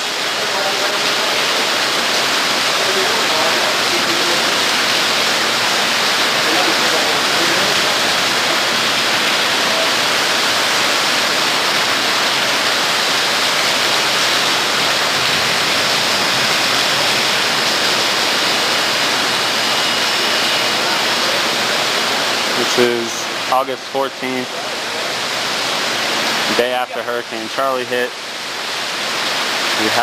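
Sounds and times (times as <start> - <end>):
water rushing into building: 0.0 - 30.0.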